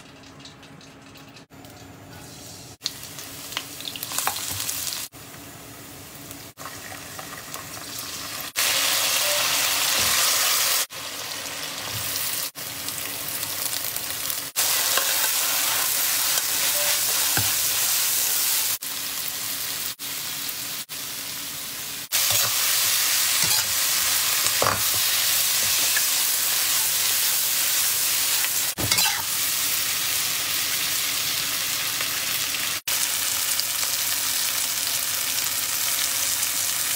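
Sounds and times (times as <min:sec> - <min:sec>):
oil sizzling in a wok: 0:00.0 - 0:36.9.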